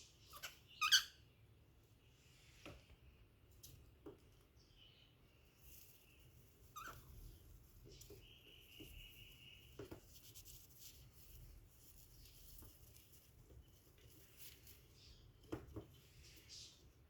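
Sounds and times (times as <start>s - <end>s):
faint scratching and tapping: 2.4s - 17.0s.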